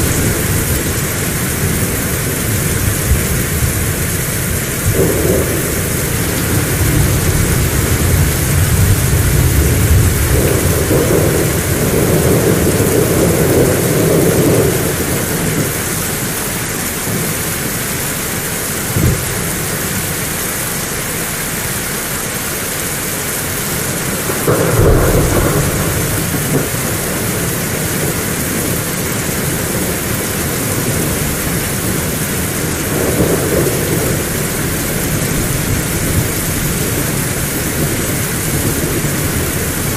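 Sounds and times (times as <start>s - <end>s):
thunder: 0.0s - 15.7s, 18.9s - 19.5s, 24.1s - 39.9s
heavy rain: 0.0s - 39.9s.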